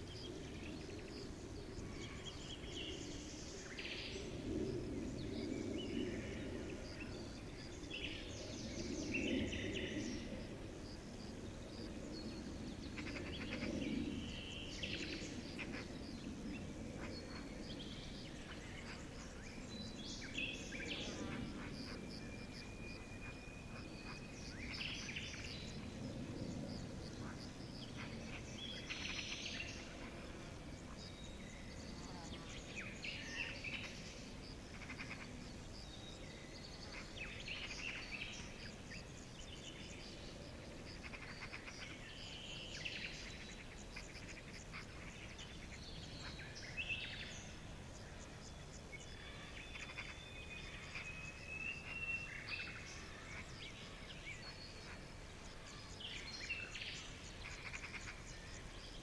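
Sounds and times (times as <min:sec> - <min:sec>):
birds chirping and trilling: 0:11.7 - 0:59.0.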